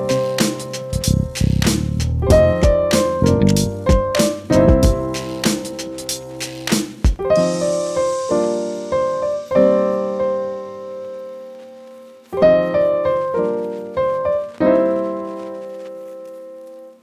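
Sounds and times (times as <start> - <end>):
slow solo piano chords: 2.2 - 6.1, 7.2 - 17.0.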